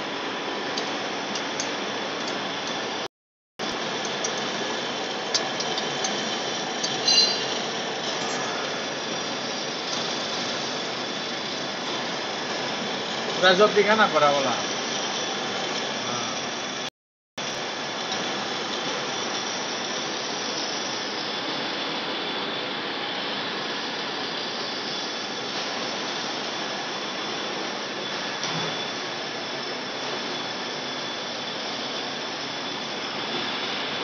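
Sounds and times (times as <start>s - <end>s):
metal lathe machining: 0.0s - 34.0s
faint high whine: 2.2s - 34.0s.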